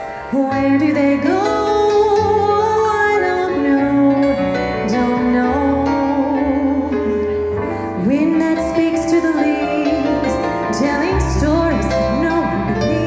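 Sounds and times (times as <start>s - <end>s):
electric piano: 0.0s - 13.0s
woman singing: 0.2s - 13.0s.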